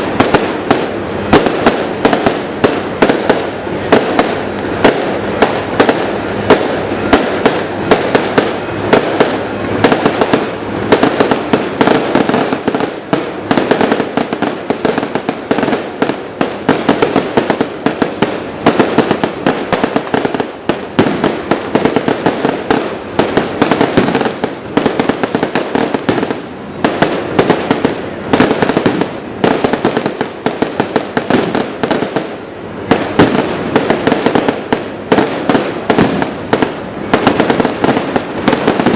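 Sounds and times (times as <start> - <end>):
fireworks bursting: 0.0 - 38.9.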